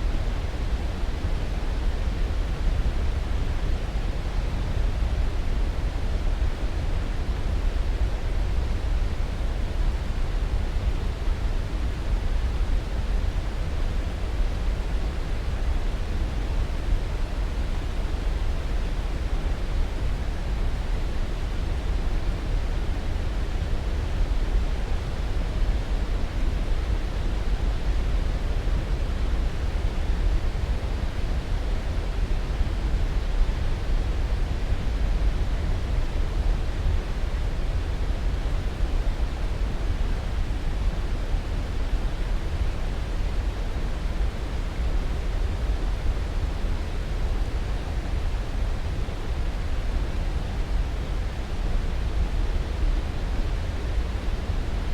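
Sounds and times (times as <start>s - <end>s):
white noise hiss: 0.0s - 54.9s.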